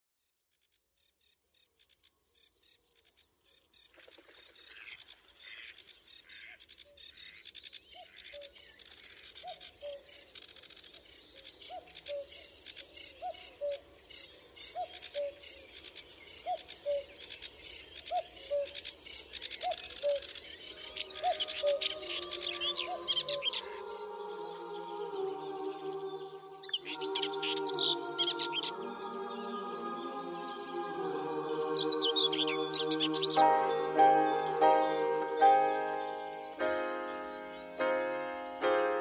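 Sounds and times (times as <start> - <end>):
birds chirping and calling: 3.9 - 39.0.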